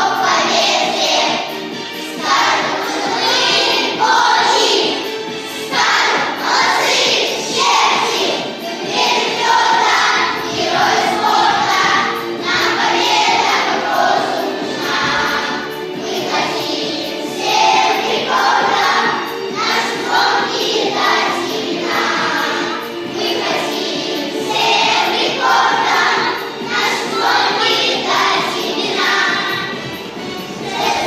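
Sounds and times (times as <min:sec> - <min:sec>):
children's choir singing: 0:00.0 - 0:31.0
instrumental backing music: 0:00.0 - 0:31.0.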